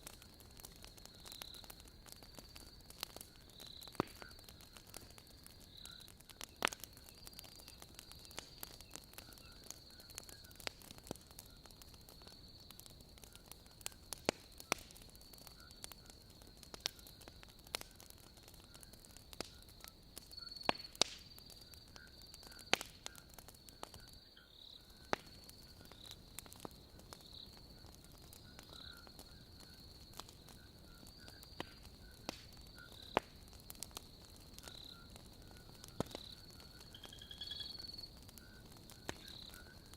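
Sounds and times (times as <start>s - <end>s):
logs crackling in fireplace: 0.0s - 39.9s
night insects chirring: 0.0s - 39.9s.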